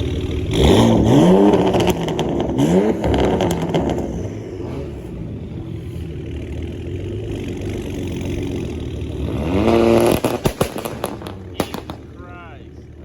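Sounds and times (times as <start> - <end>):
sharp exhaust pops: 0.0 - 12.4
engine revving sharply: 0.0 - 12.6
car engines pulling away: 0.0 - 13.0.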